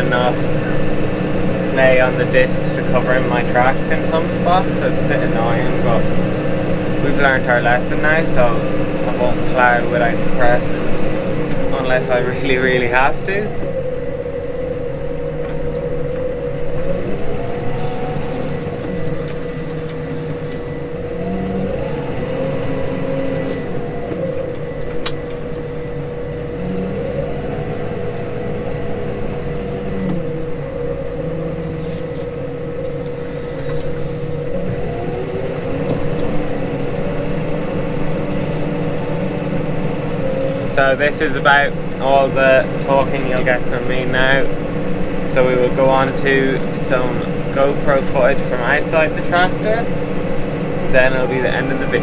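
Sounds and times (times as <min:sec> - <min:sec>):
constant whine: 0:00.0 - 0:52.0
tractor engine running under load: 0:00.0 - 0:52.0.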